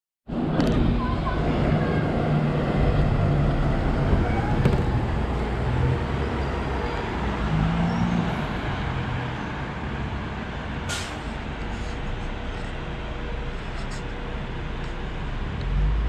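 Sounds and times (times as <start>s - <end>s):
bus engine droning: 0.3s - 16.0s
road traffic noise: 0.3s - 16.0s.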